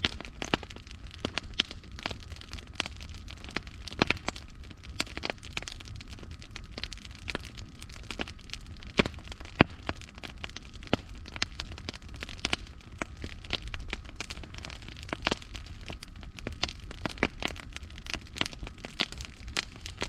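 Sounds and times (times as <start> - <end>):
fire low rumble: 0.0 - 20.0
wood fire crackling and popping: 0.0 - 20.0.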